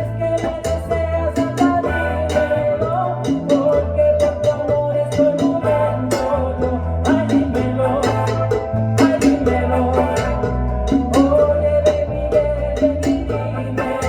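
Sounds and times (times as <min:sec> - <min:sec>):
live band playing latin groove: 0:00.0 - 0:14.0.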